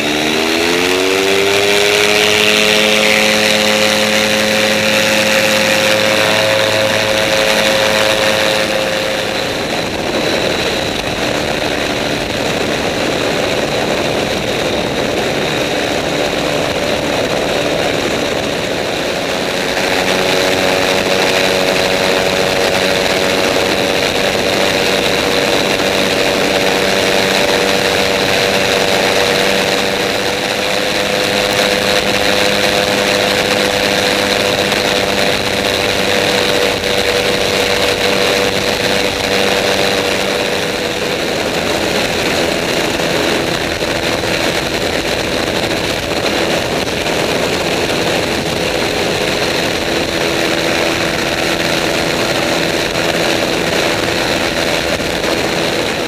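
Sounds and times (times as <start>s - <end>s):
propeller aircraft engine: 0.0s - 56.0s
wind rush on microphone: 0.0s - 56.0s.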